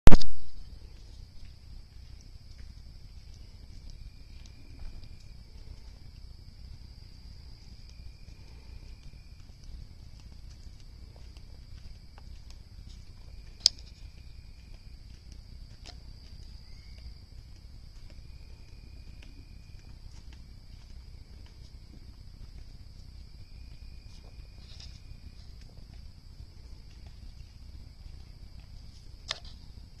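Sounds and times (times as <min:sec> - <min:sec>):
bonfire crackling and popping: 0:00.1 - 0:30.0
high-pitched insect chorus: 0:00.4 - 0:30.0
low insect trill: 0:00.4 - 0:30.0.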